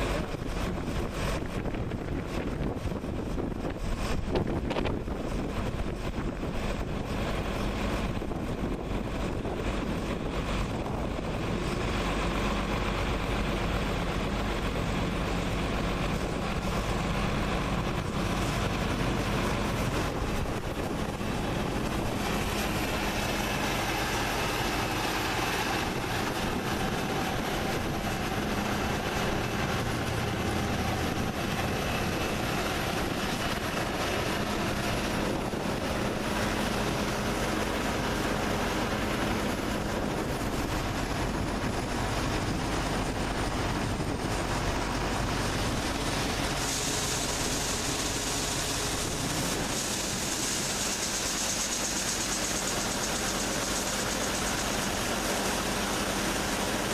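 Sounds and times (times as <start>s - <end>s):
combine harvester drone: 0.0s - 56.9s
high steady whine: 0.0s - 56.9s.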